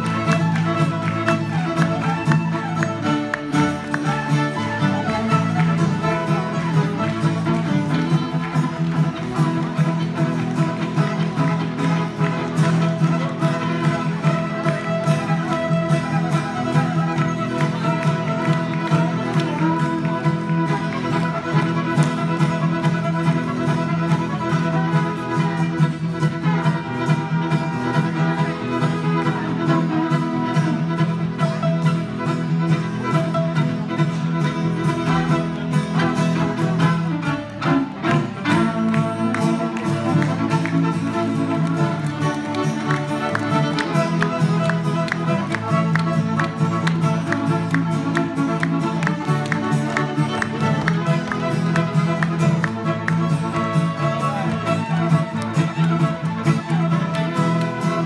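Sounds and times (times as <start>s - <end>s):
acoustic guitar: 0.0s - 58.0s
fiddles playing a tune: 0.0s - 58.0s.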